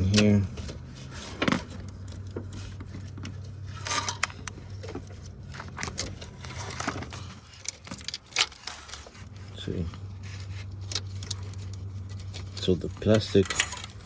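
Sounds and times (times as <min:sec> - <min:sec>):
hands handling plastic connectors: 0:00.0 - 0:14.0
low steady hum: 0:00.0 - 0:14.0.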